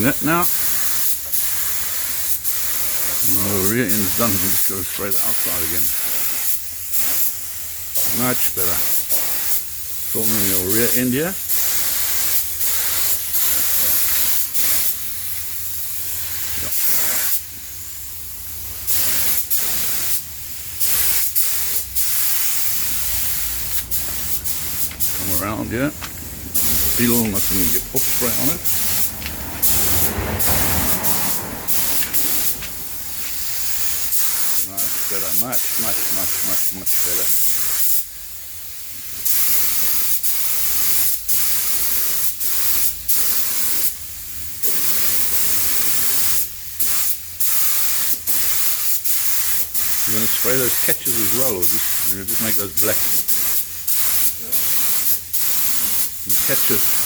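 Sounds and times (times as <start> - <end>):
spray gun hissing: 0.0 - 57.0.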